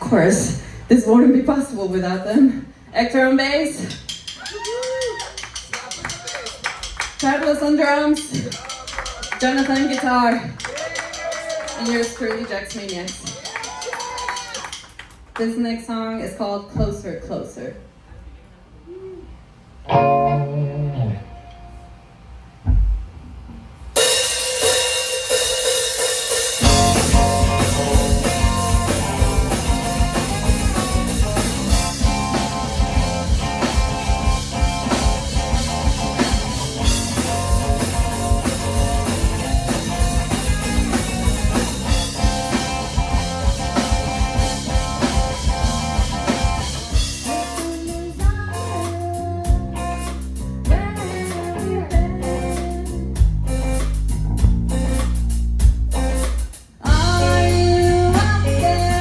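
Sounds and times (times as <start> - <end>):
rock band playing: 3.7 - 15.0, 19.9 - 21.7, 24.0 - 59.0.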